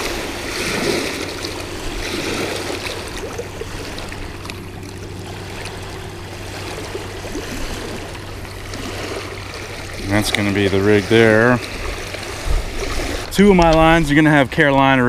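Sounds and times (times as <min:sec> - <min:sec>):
small waves lapping on rocky shore: 0:00.0 - 0:15.0.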